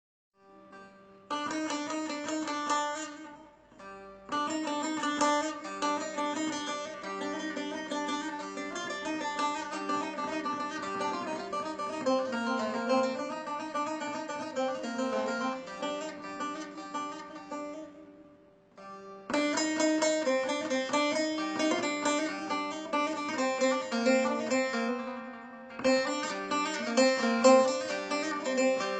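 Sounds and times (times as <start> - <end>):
plucked saz melody: 0.4 - 28.9.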